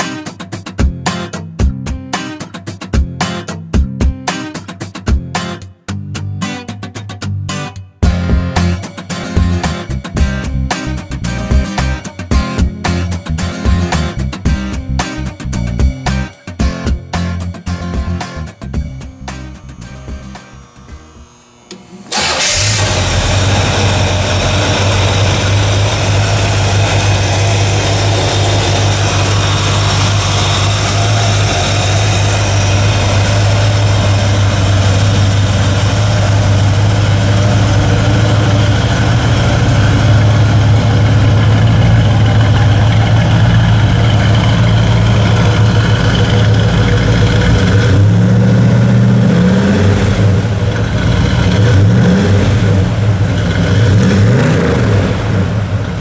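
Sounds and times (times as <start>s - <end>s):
car engine idling and revving: 8.0s - 56.0s.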